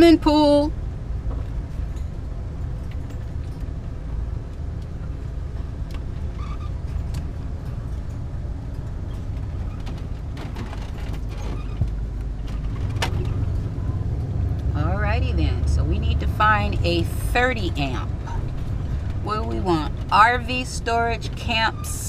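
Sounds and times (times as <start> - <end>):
van engine and road rumble: 0.0 - 22.0.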